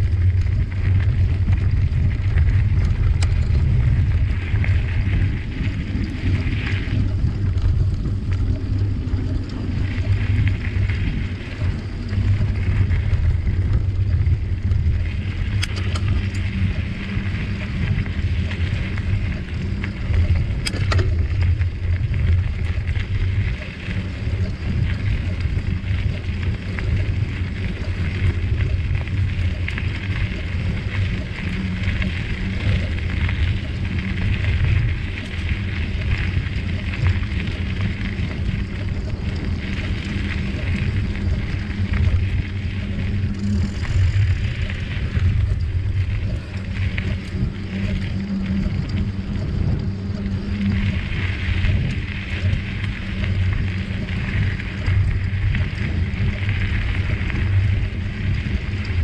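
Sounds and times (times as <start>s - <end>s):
bicycle tyre and drivetrain noise: 0.0s - 59.0s
wind rumble on microphone: 0.0s - 59.0s.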